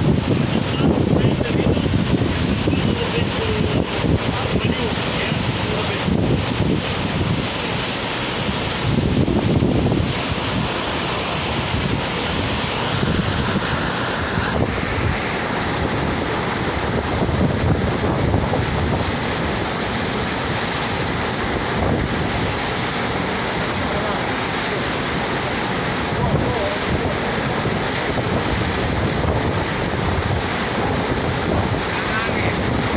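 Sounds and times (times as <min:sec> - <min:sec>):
wind buffeting microphone: 0:00.0 - 0:25.1, 0:25.7 - 0:32.9
rushing water: 0:00.0 - 0:32.9.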